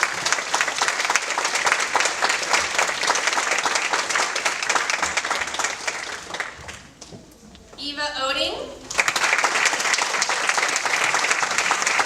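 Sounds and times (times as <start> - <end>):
audience applauding: 0.0 - 7.1, 8.9 - 12.0.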